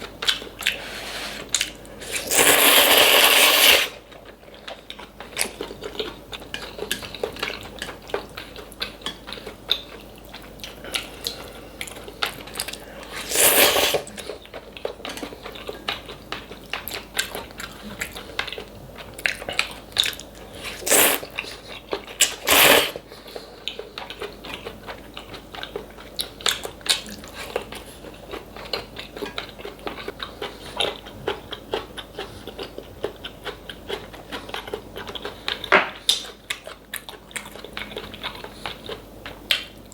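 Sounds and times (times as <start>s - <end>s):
chewing and biting: 4.0s - 39.8s.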